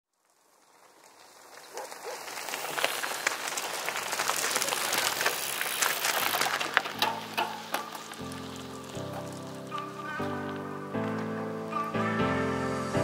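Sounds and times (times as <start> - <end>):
bicycle tyres crunching on gravel: 0.1 - 13.0.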